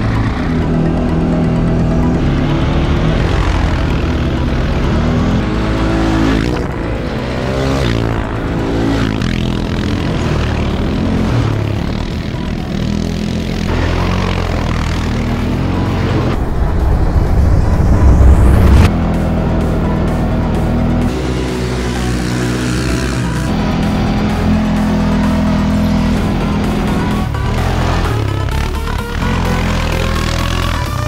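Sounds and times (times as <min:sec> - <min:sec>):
atv engines revving: 0:00.0 - 0:16.6, 0:18.7 - 0:31.0.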